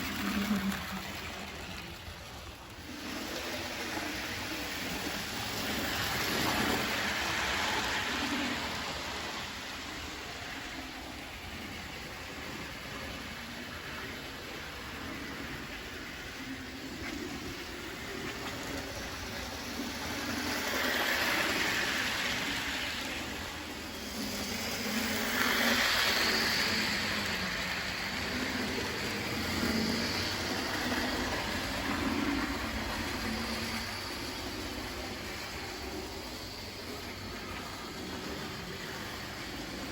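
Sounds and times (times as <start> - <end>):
model train whirring: 0.0 - 39.9.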